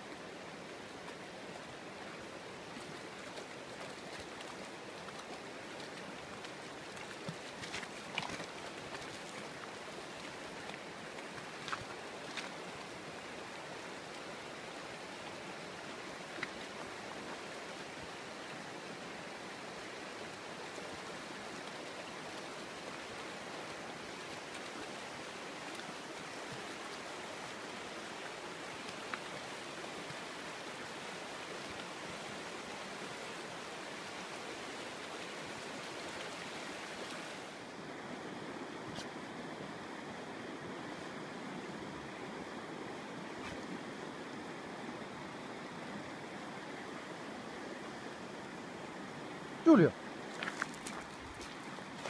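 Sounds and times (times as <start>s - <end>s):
shallow river rushing over stones: 0.0s - 52.0s.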